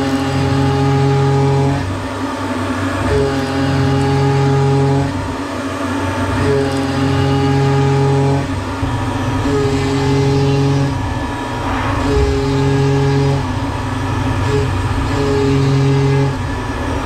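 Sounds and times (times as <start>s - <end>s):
milling machine cutting metal: 0.0s - 17.0s.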